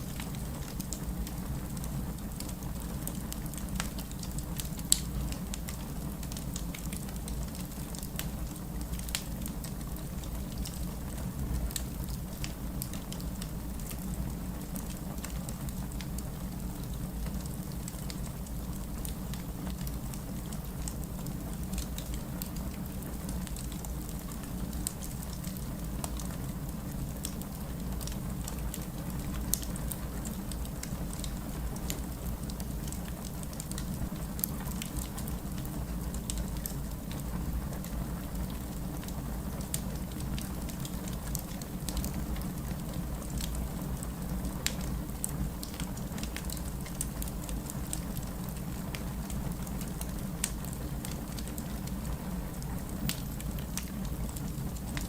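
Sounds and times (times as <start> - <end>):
fireplace crackling: 0.0 - 55.0
steady rain: 0.0 - 55.0.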